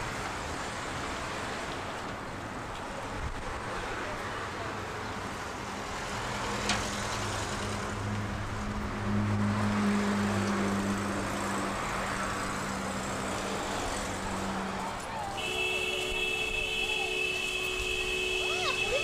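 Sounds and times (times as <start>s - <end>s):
passing cars: 0.0s - 19.0s.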